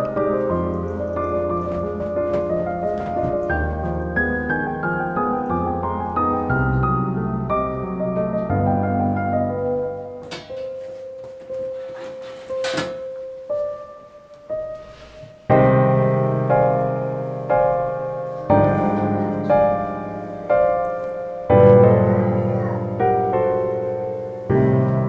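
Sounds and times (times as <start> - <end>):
slow piano music: 0.0 - 25.0.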